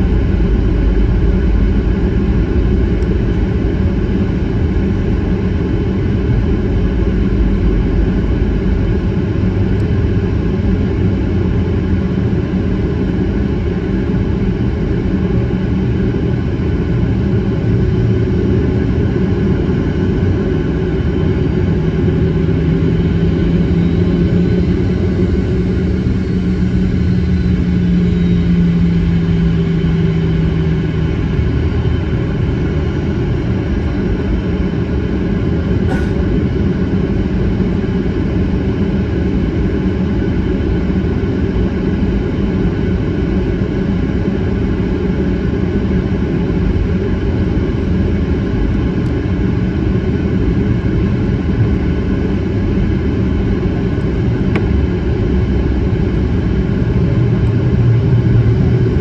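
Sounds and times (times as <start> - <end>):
airliner cabin rumble: 0.0 - 59.0
steady low hum: 0.0 - 59.0.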